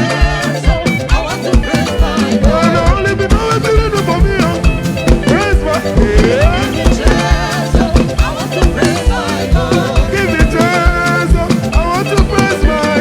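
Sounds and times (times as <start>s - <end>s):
gospel praise music: 0.0s - 13.0s
steady drum beat: 0.0s - 13.0s.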